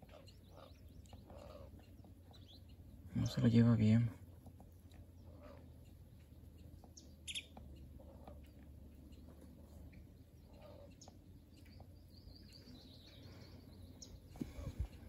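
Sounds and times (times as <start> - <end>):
bird chirp: 0.0 - 15.0.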